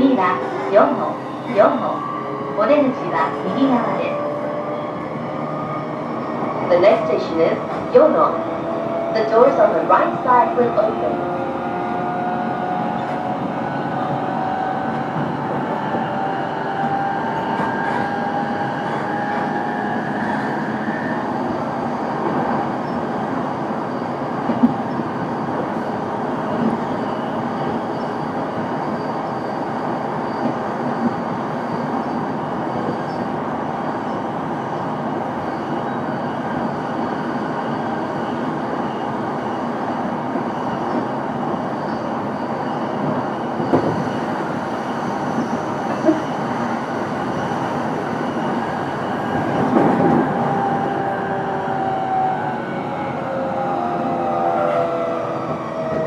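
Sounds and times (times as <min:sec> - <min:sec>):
electric train inverter whine: 0:00.0 - 0:56.0
train wheels rumbling on rail: 0:00.0 - 0:56.0.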